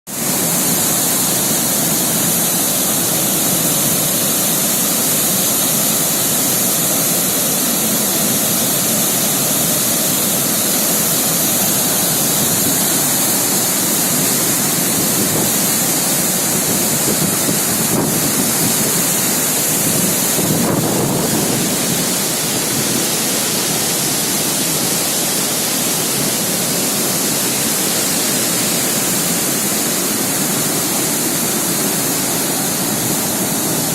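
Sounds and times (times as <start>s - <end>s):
water rushing and crashing: 0.1s - 33.9s.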